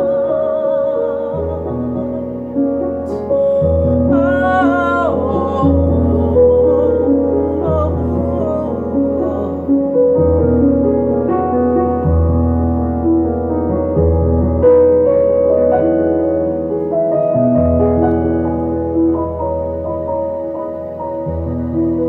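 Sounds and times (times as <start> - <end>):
piano playing slow chords: 0.0 - 22.0.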